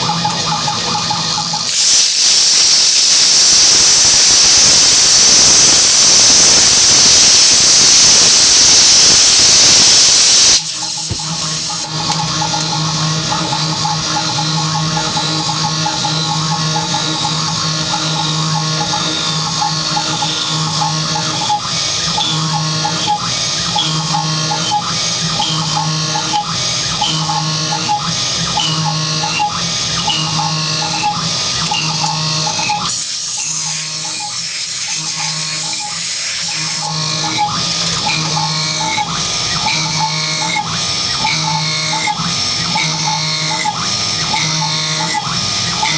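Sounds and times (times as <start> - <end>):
milling machine whine: 0.0 - 45.9.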